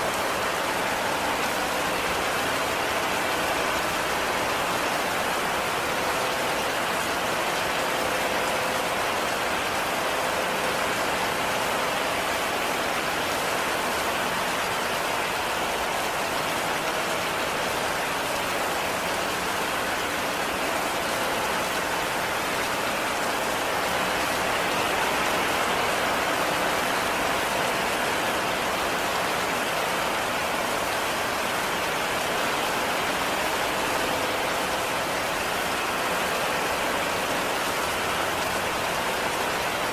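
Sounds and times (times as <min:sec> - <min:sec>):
heavy rain on a cabin: 0:00.0 - 0:39.9.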